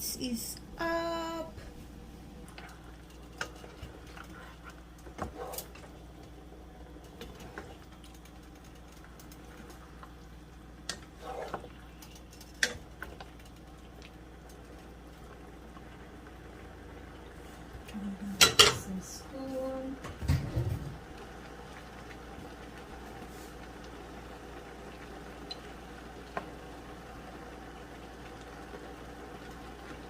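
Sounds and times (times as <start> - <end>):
pot simmering: 0.0 - 30.0.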